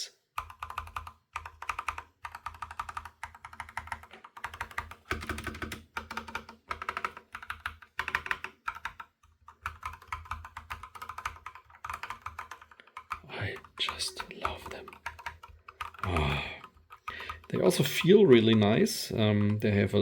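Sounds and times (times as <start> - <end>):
mechanical keyboard typing: 0.4 - 20.0.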